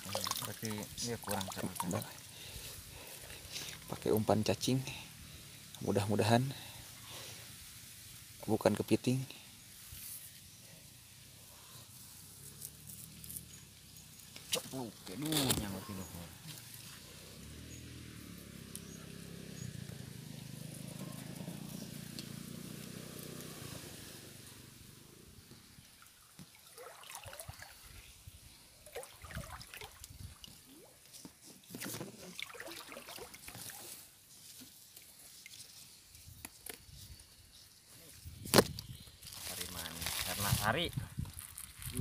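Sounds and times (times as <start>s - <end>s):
stream water trickling and splashing: 0.0s - 10.6s, 11.4s - 36.4s.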